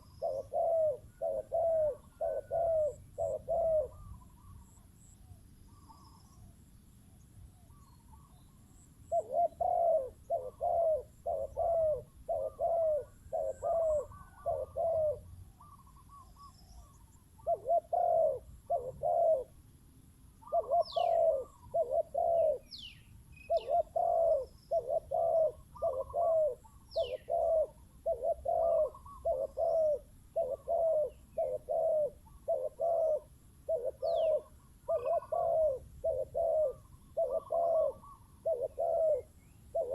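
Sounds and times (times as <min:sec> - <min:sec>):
doves cooing: 0:00.0 - 0:06.3, 0:09.1 - 0:19.6, 0:20.4 - 0:22.8, 0:23.4 - 0:39.9.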